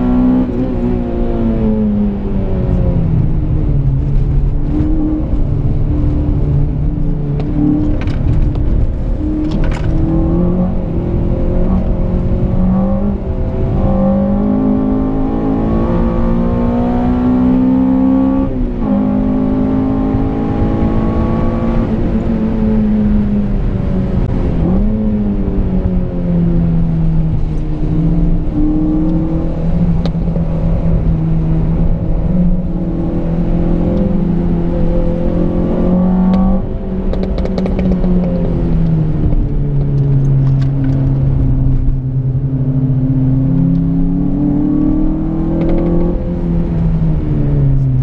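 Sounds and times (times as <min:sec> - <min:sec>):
car engine revving under load: 0:00.0 - 0:48.0.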